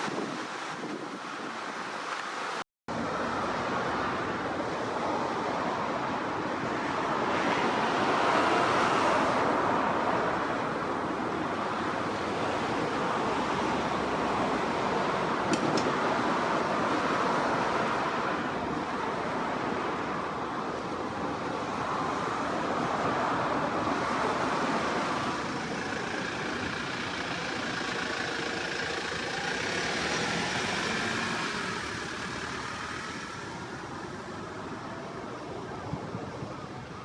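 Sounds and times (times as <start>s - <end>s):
road traffic: 0.0s - 37.0s
wind on microphone: 0.0s - 37.0s.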